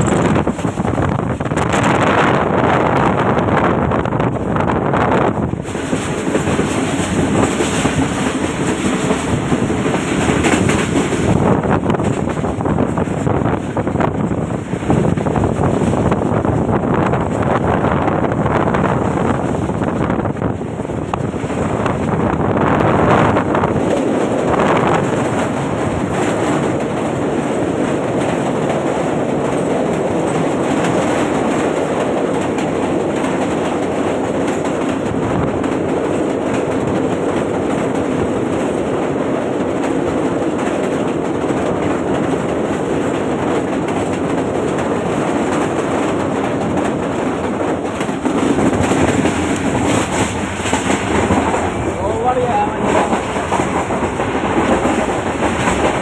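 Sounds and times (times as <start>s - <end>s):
train wheels clickety-clack on rails: 0.0s - 56.0s.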